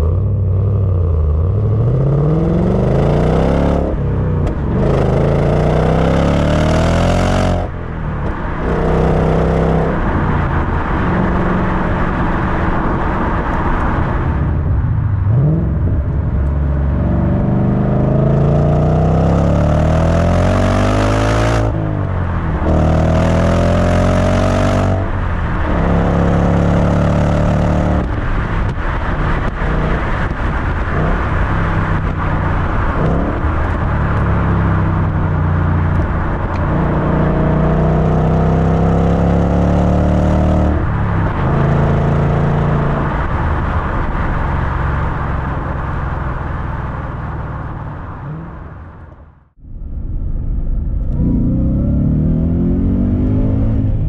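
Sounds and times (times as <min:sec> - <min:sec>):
car exhaust revving: 0:00.0 - 0:50.0.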